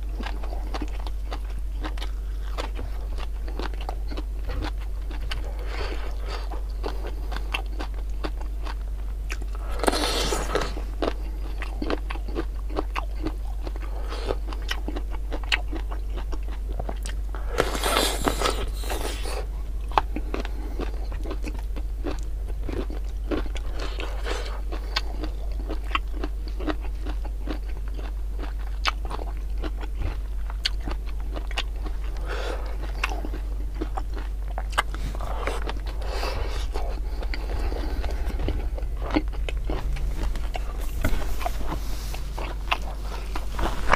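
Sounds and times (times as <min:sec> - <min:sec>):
steady low hum: 0:00.0 - 0:43.9
wet chewing with mouth clicks: 0:00.0 - 0:43.9
crunching bites: 0:00.1 - 0:43.9.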